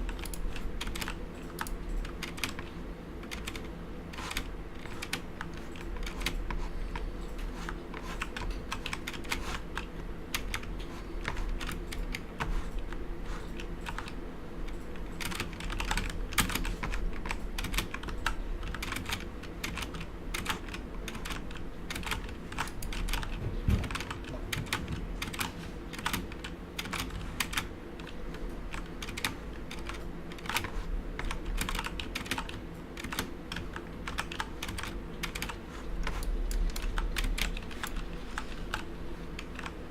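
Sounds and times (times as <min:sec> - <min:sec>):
low steady hum: 0:00.0 - 0:39.9
mechanical keyboard typing: 0:00.0 - 0:39.9.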